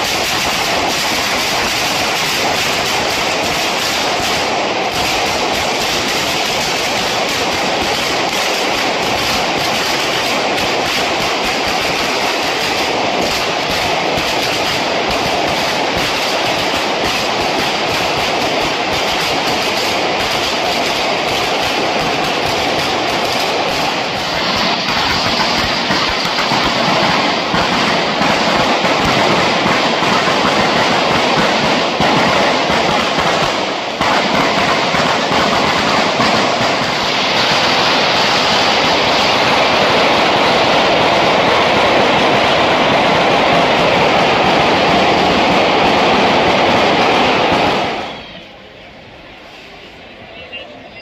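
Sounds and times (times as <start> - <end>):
string of firecrackers crackling: 0.0 - 51.0.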